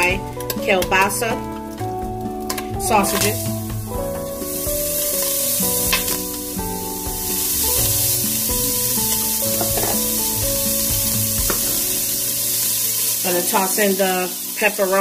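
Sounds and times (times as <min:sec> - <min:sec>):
soft background music: 0:00.0 - 0:15.0
sausage sizzling in a pan: 0:00.8 - 0:15.0.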